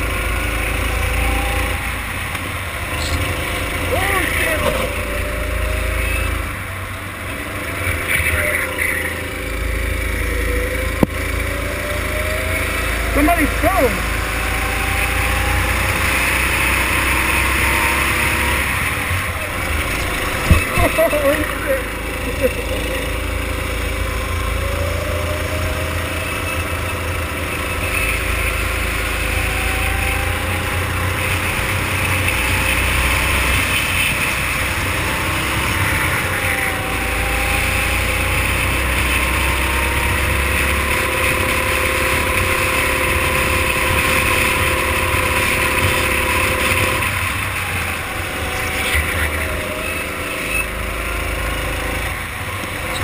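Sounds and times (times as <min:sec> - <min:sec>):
go-kart engines racing: 0:00.0 - 0:53.0.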